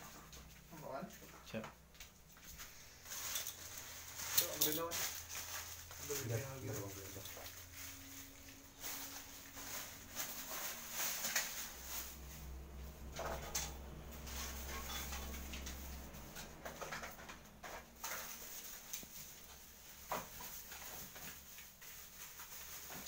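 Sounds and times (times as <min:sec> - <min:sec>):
faint background hum: 0:00.0 - 0:23.0
plastic packets rustling: 0:02.6 - 0:23.0.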